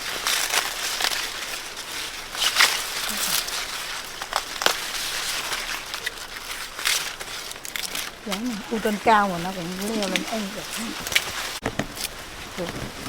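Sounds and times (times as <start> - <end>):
dry corn stalks rustling: 0.0 - 13.0.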